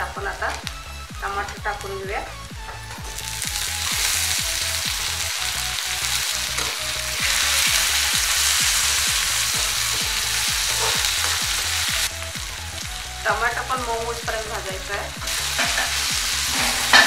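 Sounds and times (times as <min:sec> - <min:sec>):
vegetables sizzling in oil: 0:00.2 - 0:17.0.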